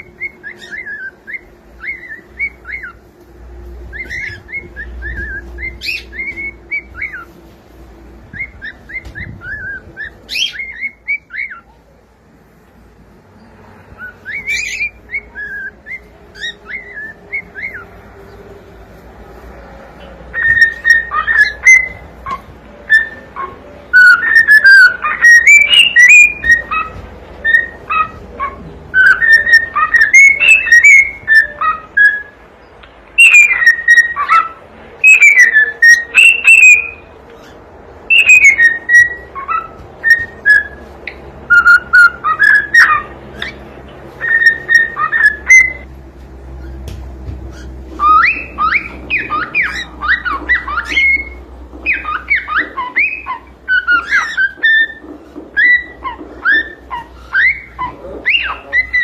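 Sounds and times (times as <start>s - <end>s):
cockatiel whistling: 0.0s - 3.0s, 3.9s - 7.3s, 8.3s - 11.7s, 14.0s - 17.9s, 20.3s - 32.4s, 33.2s - 43.6s, 44.2s - 45.9s, 47.5s - 59.0s.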